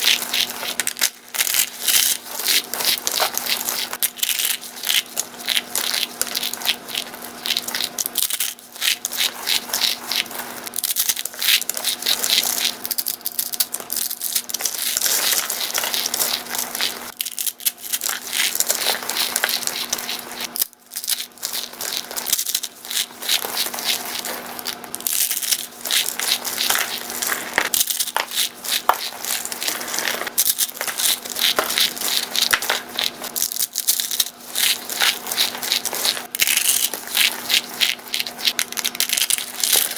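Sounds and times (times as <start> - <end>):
brittle block crunching: 0.0 - 39.9.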